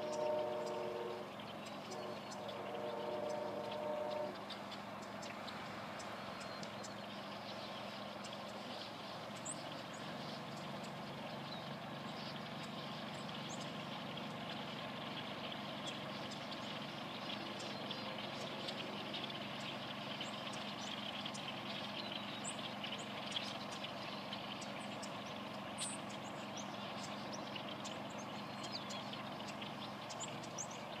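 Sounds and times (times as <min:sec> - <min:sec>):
flock of blackbirds chattering: 0:00.0 - 0:31.0.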